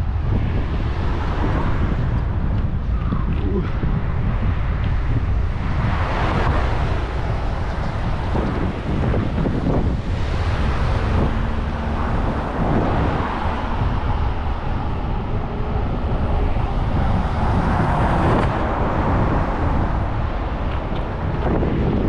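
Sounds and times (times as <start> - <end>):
road traffic: 0.0 - 22.0
wind rumbling on microphone: 0.0 - 22.0.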